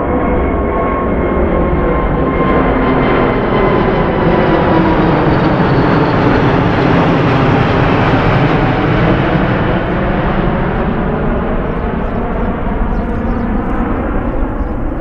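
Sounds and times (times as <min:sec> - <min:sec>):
jet passing low overhead: 0:00.0 - 0:15.0.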